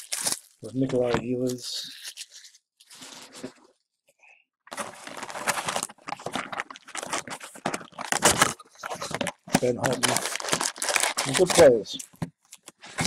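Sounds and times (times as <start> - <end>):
packaging crinkling and tearing: 0.0 - 3.5, 4.7 - 13.0.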